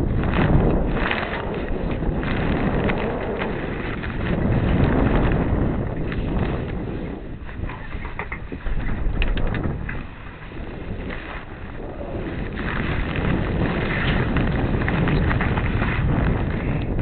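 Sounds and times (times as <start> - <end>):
crackles: 0.0 - 17.0
wind buffeting microphone: 0.0 - 17.0.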